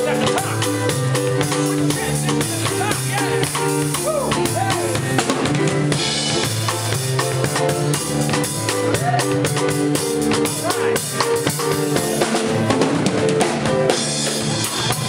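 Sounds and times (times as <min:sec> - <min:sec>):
band playing: 0:00.0 - 0:15.0
drum kit beat: 0:00.0 - 0:15.0.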